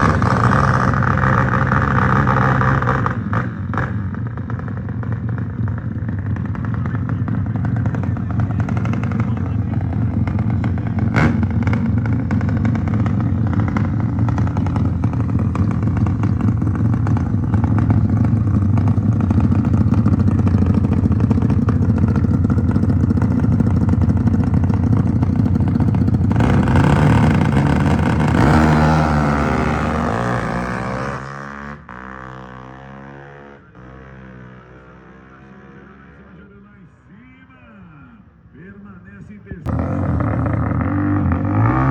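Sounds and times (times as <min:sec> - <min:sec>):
motorcycle engines running: 0:00.0 - 0:37.3, 0:38.6 - 0:41.9.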